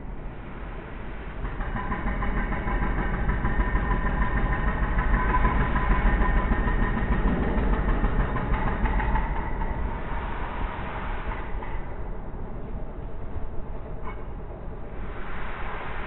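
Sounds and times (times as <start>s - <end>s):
train rumbling with whine: 0.0s - 16.0s.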